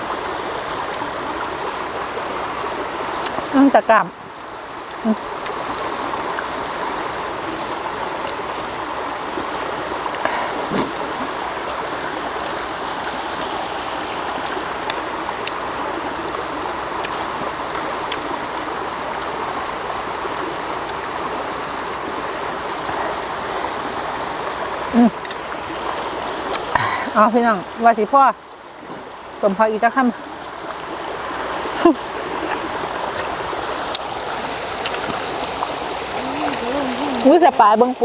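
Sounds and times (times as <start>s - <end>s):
water rushing over rocks: 0.0s - 38.0s.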